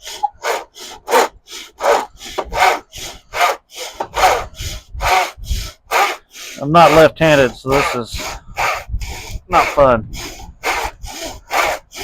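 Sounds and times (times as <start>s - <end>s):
hand saw cutting wood: 0.0s - 12.0s.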